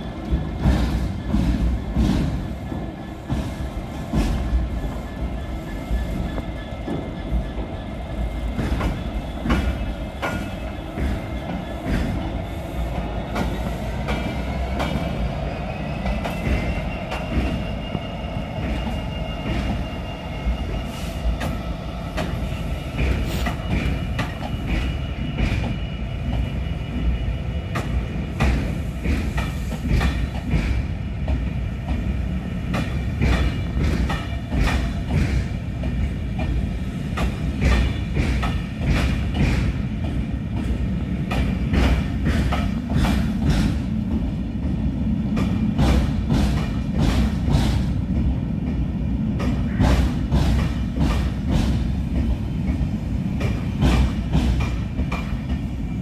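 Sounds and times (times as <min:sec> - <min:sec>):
train heavy rumble: 0:00.0 - 0:56.0.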